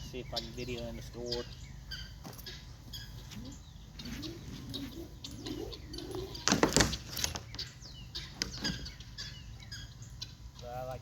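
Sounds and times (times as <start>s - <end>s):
small birds chirping: 0.0s - 11.0s
dove cooing: 0.2s - 9.5s.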